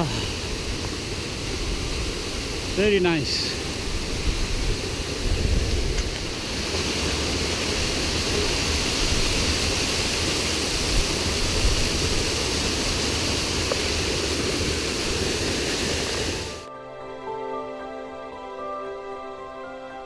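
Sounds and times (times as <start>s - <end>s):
waterfall rushing: 0.0s - 16.7s.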